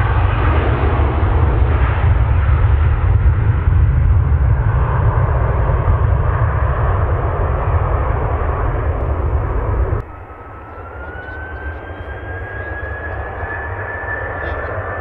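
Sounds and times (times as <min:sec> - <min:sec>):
jet engine low rumble: 0:00.0 - 0:15.0
jet engine rush and whine: 0:00.0 - 0:15.0.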